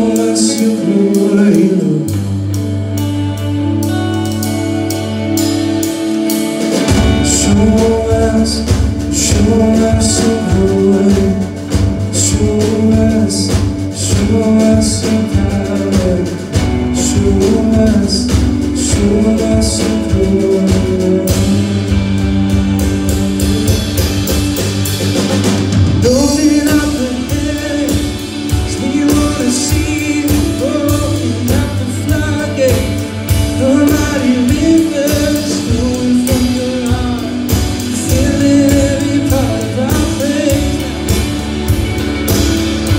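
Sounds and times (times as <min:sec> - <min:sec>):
drum kit beats and cymbals: 0:00.0 - 0:42.9
electric bass: 0:00.0 - 0:42.9
electric guitar: 0:00.0 - 0:42.9.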